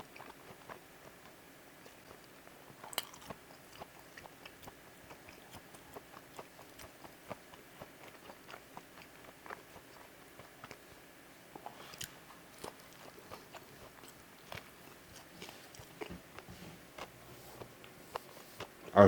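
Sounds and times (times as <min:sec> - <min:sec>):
close chewing with wet mouth clicks: 0:00.0 - 0:11.0, 0:11.6 - 0:19.0.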